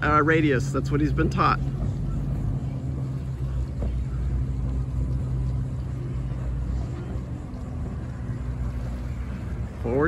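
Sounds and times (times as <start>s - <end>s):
boat diesel engine rumbling: 0.0s - 10.0s.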